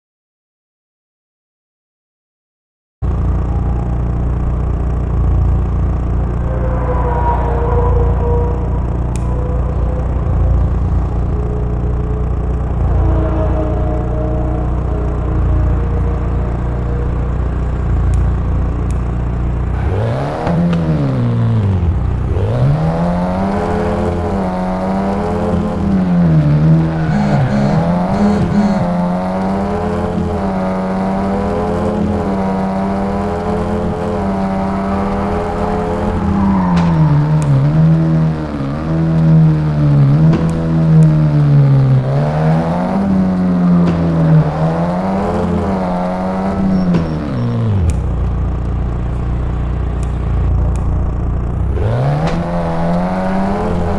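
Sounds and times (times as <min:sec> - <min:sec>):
engine revving: 0:03.0 - 0:53.9.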